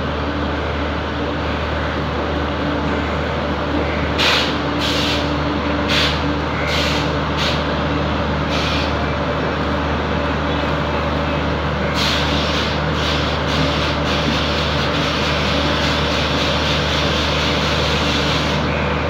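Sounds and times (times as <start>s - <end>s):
electric locomotive hum: 0.0s - 19.0s.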